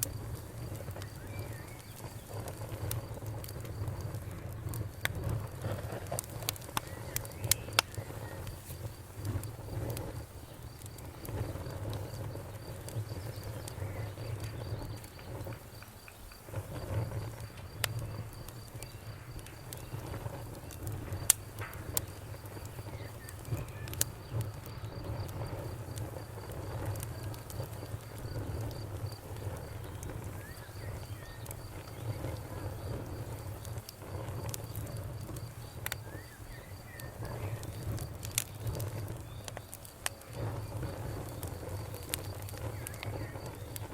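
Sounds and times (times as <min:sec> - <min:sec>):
crickets chirping: 0:00.0 - 0:43.9
wood fire crackling and popping: 0:00.0 - 0:43.9.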